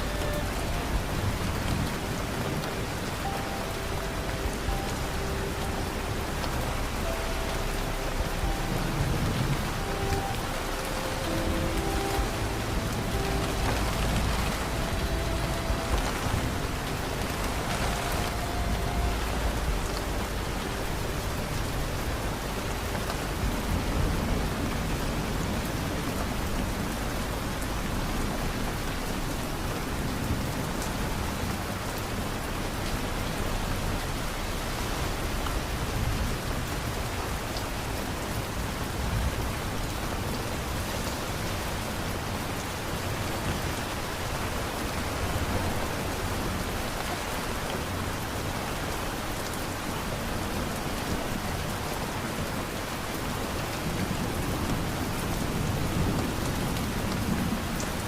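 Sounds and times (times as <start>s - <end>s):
low rumble: 0.0s - 58.0s
steady rain falling: 0.0s - 58.0s.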